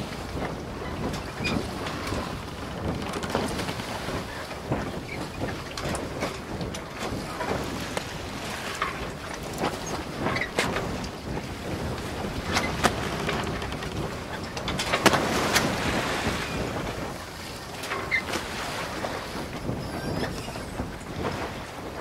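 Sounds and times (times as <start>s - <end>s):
water splashing against boat hull: 0.0s - 22.0s
wind: 0.0s - 22.0s.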